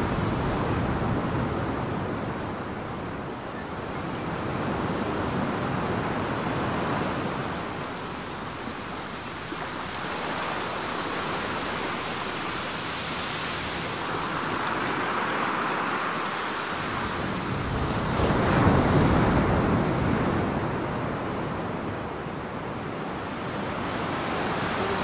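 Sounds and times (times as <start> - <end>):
ocean waves breaking: 4.1 - 25.0.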